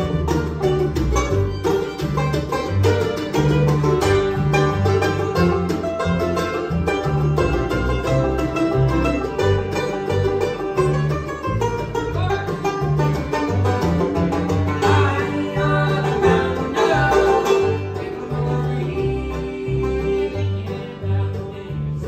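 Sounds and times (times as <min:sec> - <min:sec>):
banjo picking: 0:00.0 - 0:22.0
bass notes: 0:00.0 - 0:22.0
guitar: 0:00.0 - 0:22.0.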